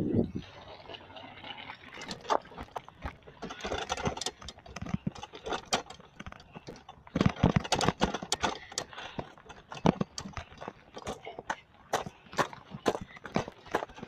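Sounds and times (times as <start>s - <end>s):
bicycle rattling over bumps: 0.4s - 14.0s.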